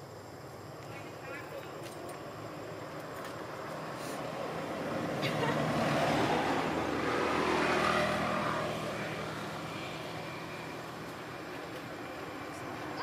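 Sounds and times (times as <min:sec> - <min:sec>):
engine hum with hiss: 0:00.0 - 0:13.0.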